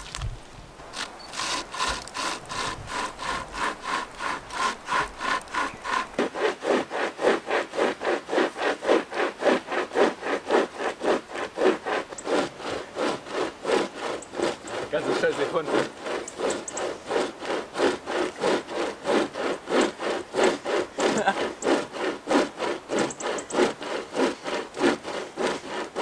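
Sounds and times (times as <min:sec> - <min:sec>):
hand chainsaw rasping through wood: 0:00.9 - 0:26.0.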